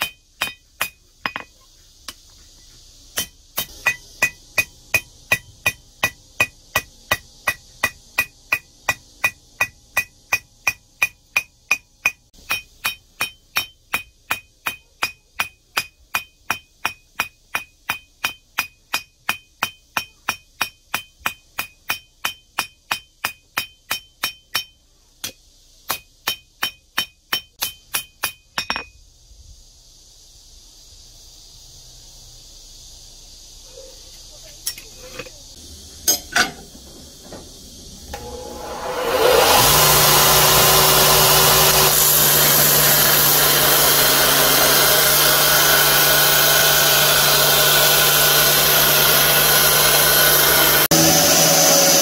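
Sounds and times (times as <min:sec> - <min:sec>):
steady hiss: 0:00.0 - 0:48.4.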